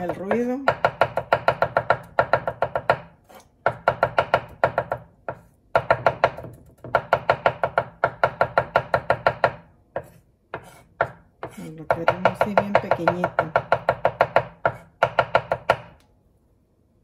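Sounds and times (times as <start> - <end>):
knife chopping on wooden board: 0.0 - 16.0.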